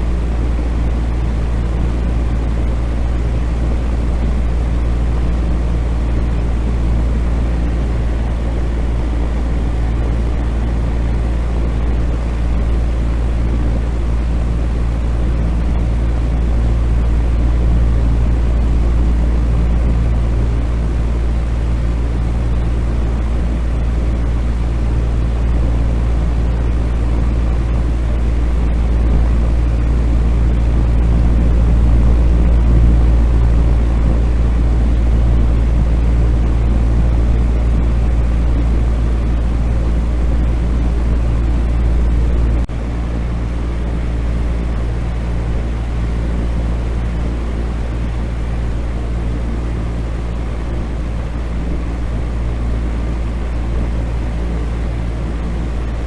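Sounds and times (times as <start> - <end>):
fan running: 0.0 - 56.0.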